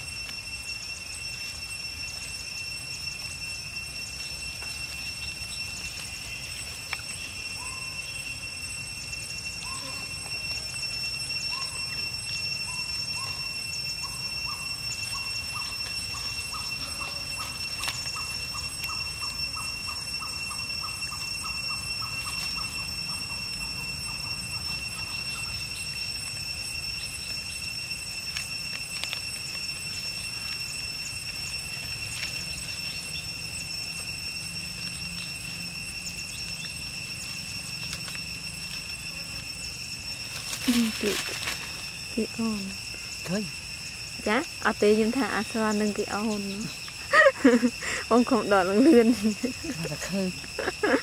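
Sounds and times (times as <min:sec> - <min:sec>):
high-pitched two-tone drone: 0:00.0 - 0:51.0.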